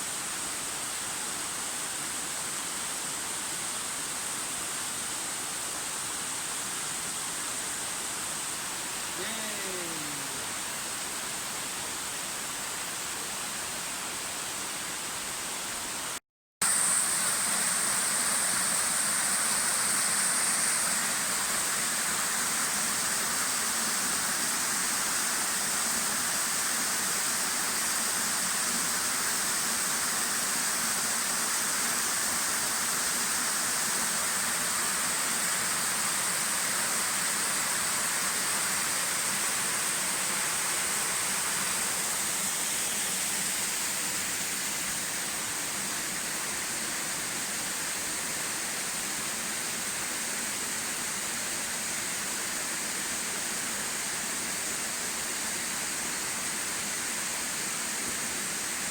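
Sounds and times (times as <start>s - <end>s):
waterfall roaring: 7.1s - 58.9s.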